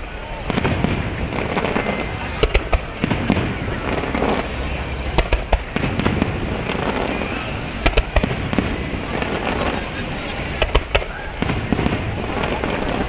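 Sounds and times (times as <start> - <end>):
firework shells bursting: 0.4 - 13.0.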